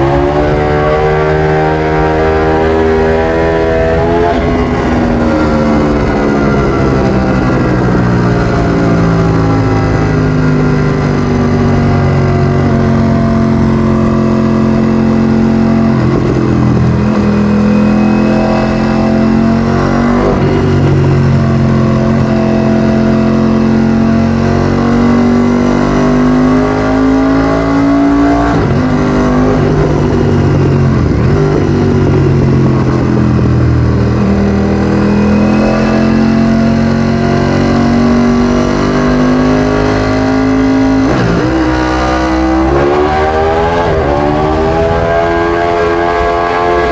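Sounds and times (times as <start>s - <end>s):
motorcycle engine while riding: 0.0s - 46.9s.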